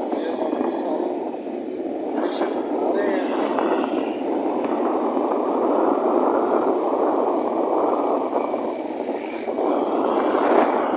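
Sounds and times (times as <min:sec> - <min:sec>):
motorcycle road noise: 0:00.0 - 0:10.9
wind noise on microphone: 0:00.0 - 0:10.9.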